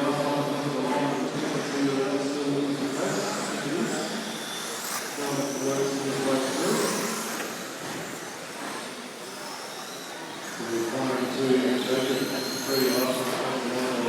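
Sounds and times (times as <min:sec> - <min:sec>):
electric rc cars whining past: 0:00.0 - 0:14.0.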